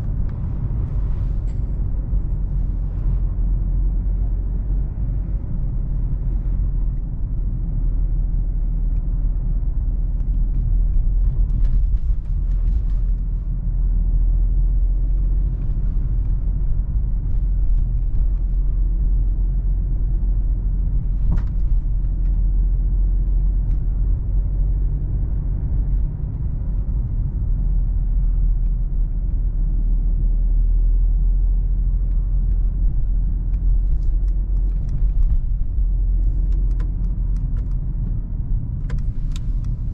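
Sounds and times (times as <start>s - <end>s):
diesel engine: 0.0s - 39.9s
wind and road rumble: 0.0s - 39.9s.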